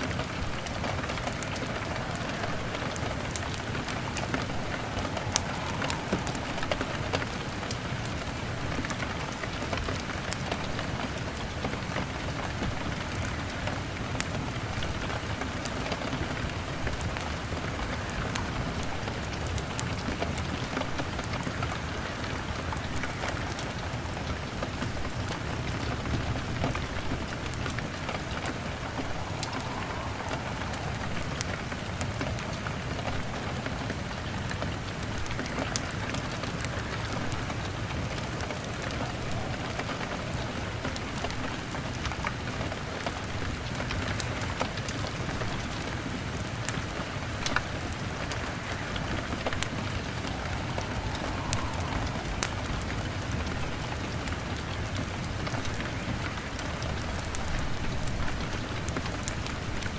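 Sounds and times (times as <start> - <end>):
rain on window glass: 0.0 - 59.9
wood fire crackling: 0.0 - 59.9.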